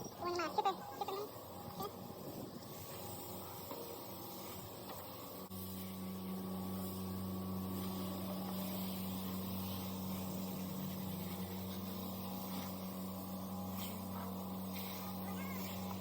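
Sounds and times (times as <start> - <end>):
low machine hum: 0.0 - 16.0
steady hiss: 0.0 - 16.0.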